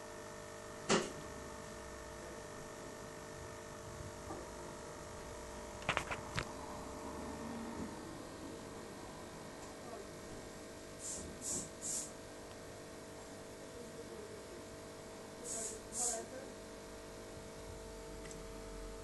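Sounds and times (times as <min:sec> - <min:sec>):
aquarium equipment hum: 0:00.0 - 0:19.0.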